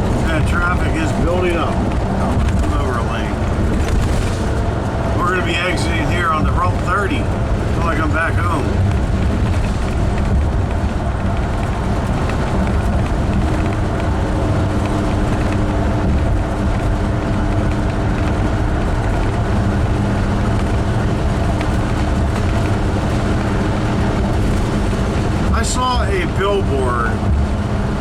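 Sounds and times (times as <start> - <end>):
road and engine noise inside vehicle: 0.0 - 28.0.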